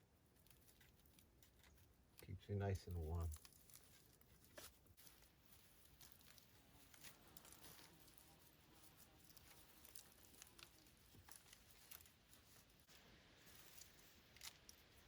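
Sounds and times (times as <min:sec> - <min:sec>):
moss rustling and crackling: 0:00.0 - 0:15.0.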